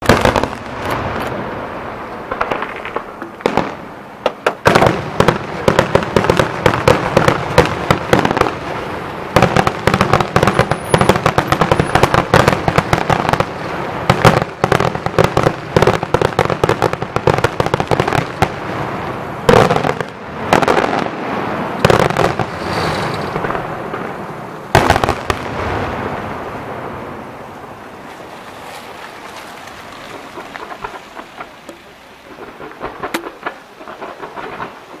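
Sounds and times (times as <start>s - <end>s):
firecracker bangs: 0.0s - 8.7s, 9.3s - 27.3s, 30.6s - 35.0s
firework booms: 0.0s - 27.7s, 30.3s - 35.0s.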